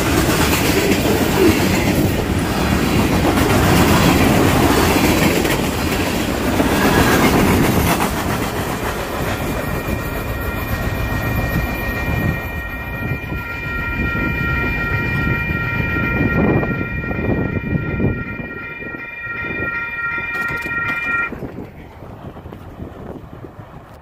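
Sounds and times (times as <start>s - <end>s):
crossing warning bell ringing: 0.0s - 21.7s
freight train rumble: 0.0s - 24.0s.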